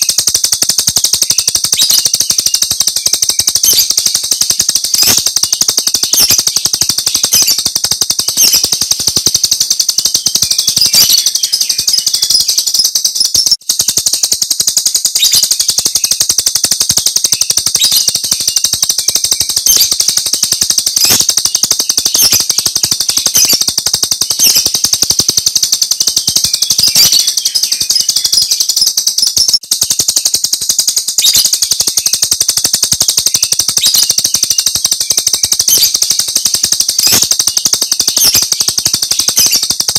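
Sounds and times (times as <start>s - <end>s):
bird rapid rattling chatter: 0.0s - 39.9s.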